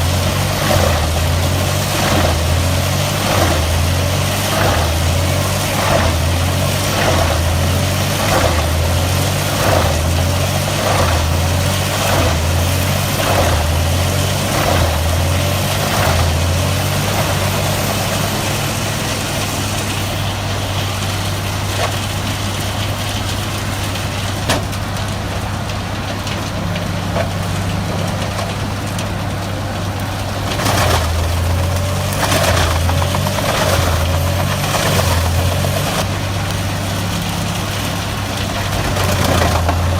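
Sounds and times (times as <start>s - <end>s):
wood chipper diesel engine running: 0.0s - 39.9s.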